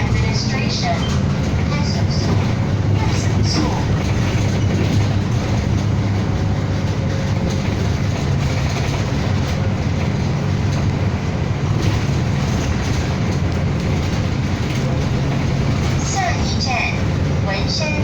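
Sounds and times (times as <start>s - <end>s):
bus engine drone: 0.0s - 18.0s
road and body rumble: 0.0s - 18.0s.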